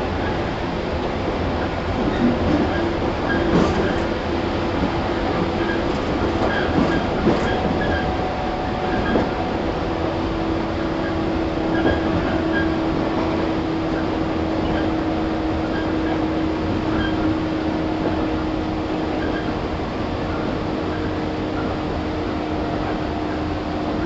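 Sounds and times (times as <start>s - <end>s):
train motor hum: 0.0s - 24.0s
train wheel and rail rumble: 0.0s - 24.0s.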